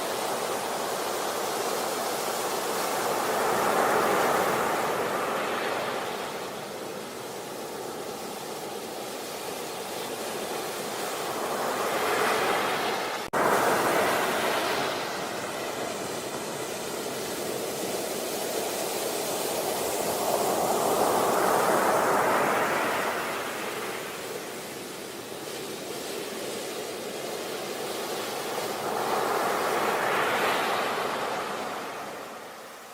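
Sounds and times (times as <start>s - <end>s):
sea waves washing onto beach: 0.0s - 32.9s.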